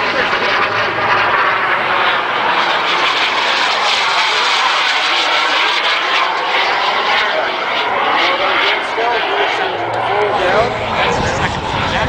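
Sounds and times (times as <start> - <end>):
model jet engine whine: 0.0 - 12.0.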